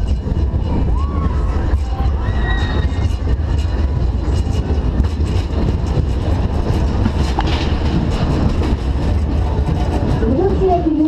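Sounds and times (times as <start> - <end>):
roller coaster wheels rattling: 0.0 - 11.0.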